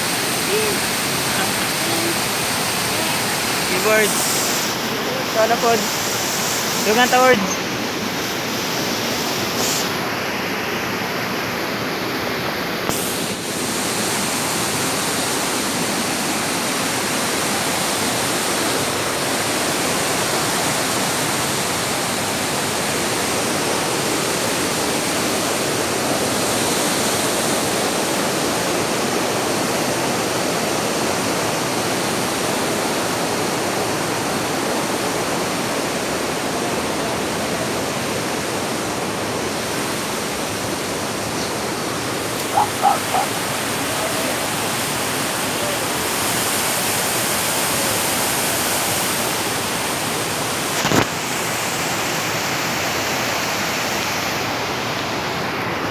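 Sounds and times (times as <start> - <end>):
rushing water: 0.0 - 55.9.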